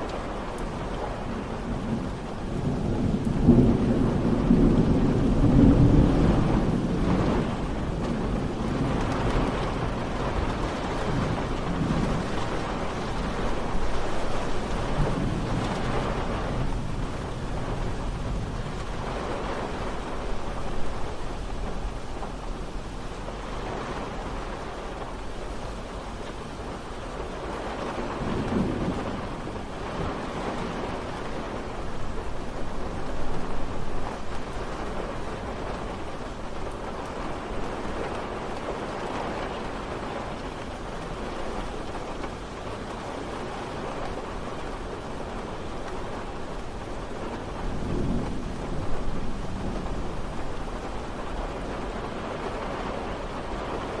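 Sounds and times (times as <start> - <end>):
distant thunder rumbling: 0.0 - 54.0
rain falling: 0.0 - 54.0.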